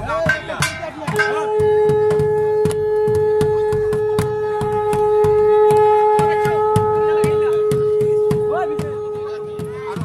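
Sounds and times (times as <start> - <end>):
drum beating: 0.0 - 10.0
conch shell blown: 1.0 - 10.0.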